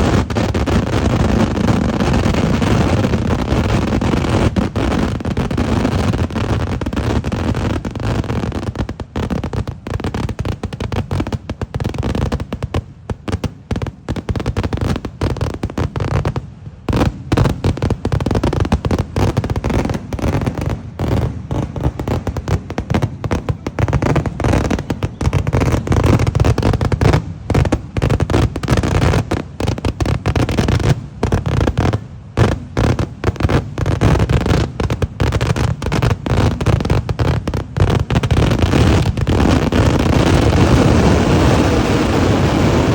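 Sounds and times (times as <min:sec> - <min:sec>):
firecracker explosions: 0:00.0 - 0:42.9.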